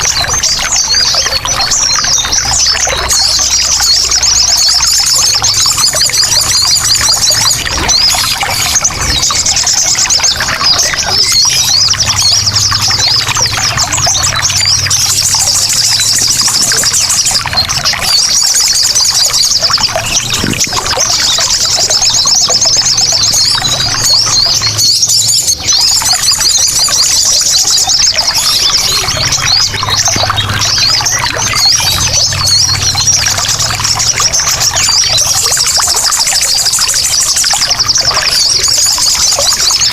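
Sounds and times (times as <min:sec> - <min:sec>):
birds twittering: 0:00.0 - 0:39.9
trickling water: 0:00.0 - 0:39.9.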